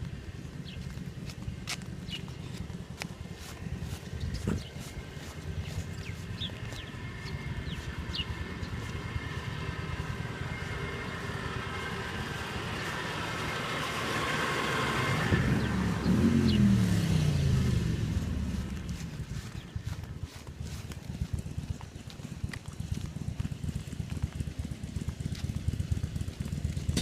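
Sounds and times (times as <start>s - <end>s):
steady low hum: 0.0s - 23.8s
vehicle driving past: 2.0s - 23.9s.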